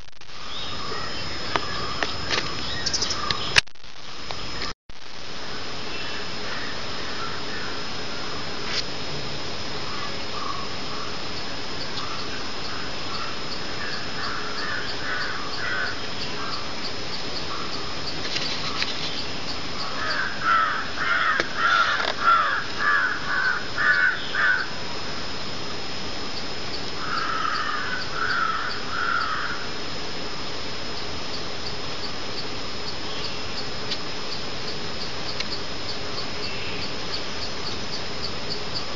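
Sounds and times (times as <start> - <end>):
steady hiss: 0.0 - 38.9
bird calling: 0.4 - 3.6, 5.9 - 8.6, 9.8 - 24.8, 26.4 - 29.7, 30.9 - 38.9.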